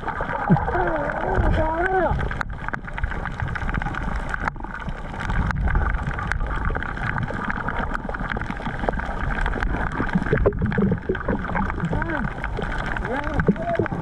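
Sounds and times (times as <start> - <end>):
underwater water rumble: 0.0 - 14.0
sharp underwater clicks: 0.3 - 14.0.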